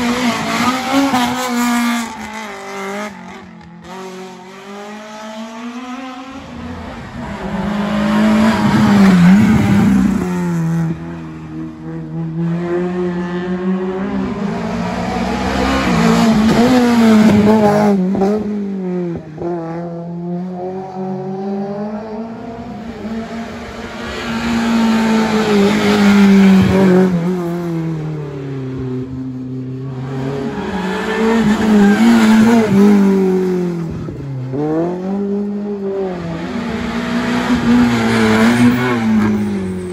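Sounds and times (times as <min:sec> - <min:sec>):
rally car engines revving past: 0:00.0 - 0:39.9.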